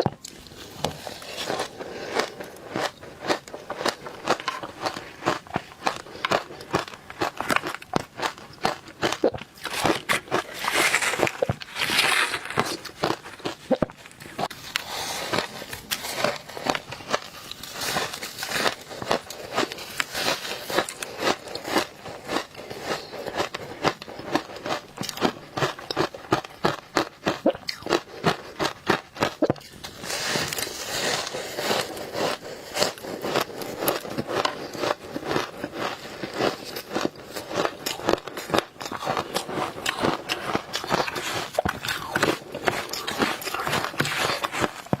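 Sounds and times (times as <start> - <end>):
chewing crunchy ice: 0.0 - 45.0.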